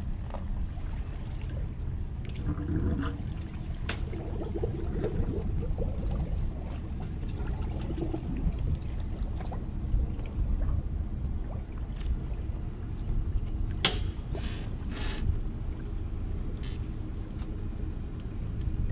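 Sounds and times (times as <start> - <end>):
low rumble: 0.0 - 18.9
water sloshing and gurgling: 0.0 - 18.9.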